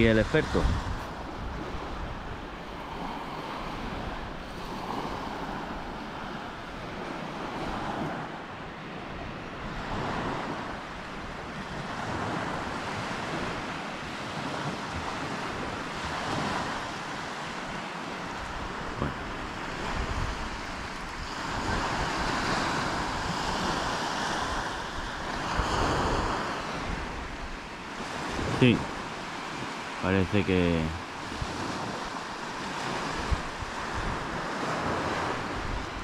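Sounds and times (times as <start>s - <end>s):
wind on microphone: 0.0s - 29.7s, 31.2s - 36.0s
waves washing up shingle beach: 0.0s - 36.0s.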